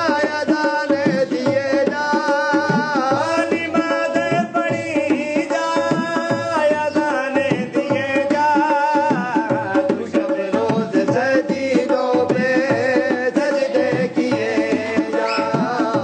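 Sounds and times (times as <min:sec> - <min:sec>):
barrel drum played by hand: 0:00.0 - 0:16.0.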